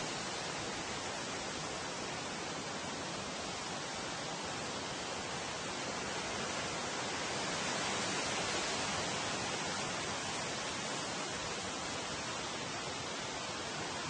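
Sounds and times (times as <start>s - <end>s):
wind rustling tree leaves: 0.0s - 14.0s.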